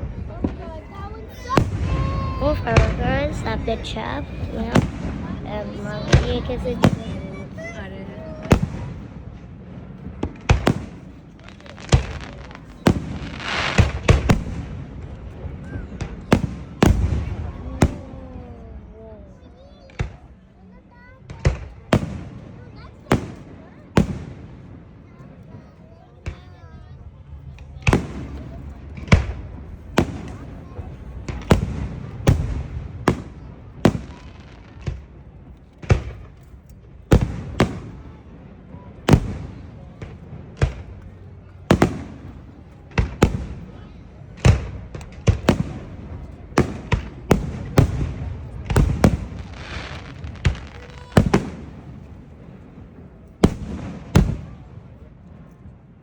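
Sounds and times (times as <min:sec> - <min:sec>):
fireworks bangs: 0:00.0 - 0:18.6, 0:19.8 - 0:55.7
fireworks crackling: 0:00.0 - 0:19.0, 0:19.6 - 0:55.6.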